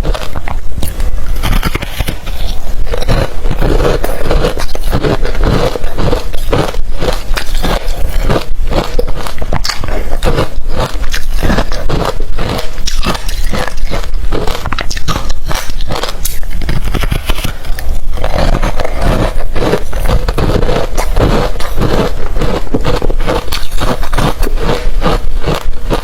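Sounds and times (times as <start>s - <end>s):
crunching ice in mouth: 0.0s - 26.0s.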